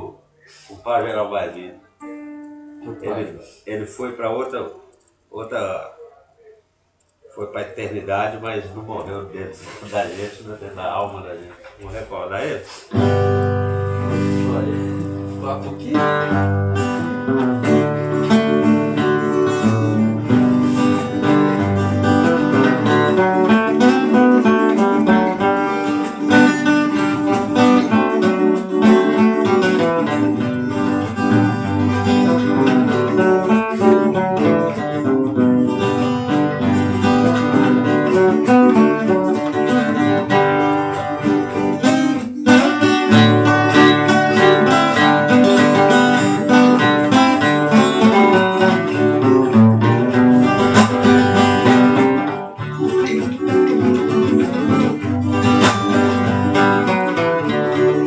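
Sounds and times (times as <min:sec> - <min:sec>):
strummed acoustic guitar: 0:00.0 - 0:04.9, 0:07.9 - 0:58.0
lead guitar plucked solo: 0:01.8 - 0:03.2, 0:12.9 - 0:58.0.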